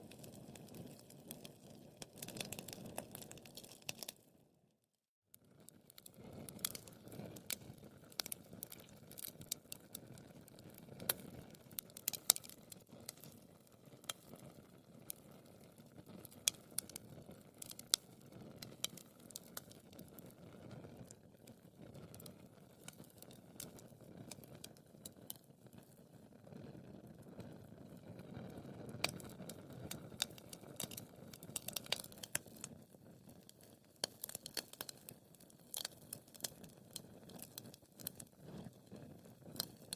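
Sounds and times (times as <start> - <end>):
wood fire crackling: 0.0 - 4.3, 5.6 - 39.9.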